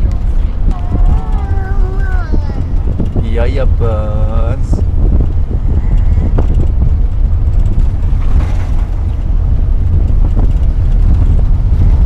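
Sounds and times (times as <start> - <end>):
car engine running: 0.0 - 12.0
road rumble: 0.0 - 12.0
wind noise: 0.0 - 12.0.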